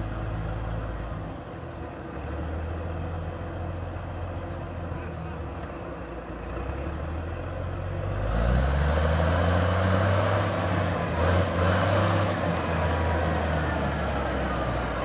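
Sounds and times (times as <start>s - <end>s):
wheel loader diesel engine driving: 0.0s - 15.0s.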